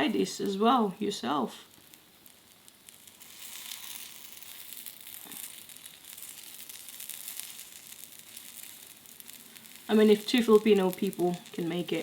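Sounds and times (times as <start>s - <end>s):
batter sizzling in a pan: 0.0s - 12.0s.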